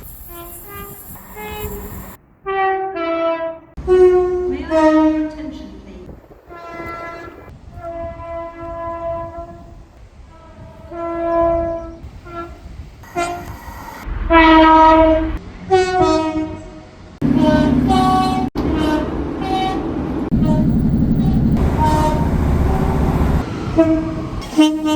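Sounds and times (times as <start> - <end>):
low rumble of train: 0.0 - 24.9
two-tone train horn blasts: 2.4 - 5.4, 6.5 - 24.9.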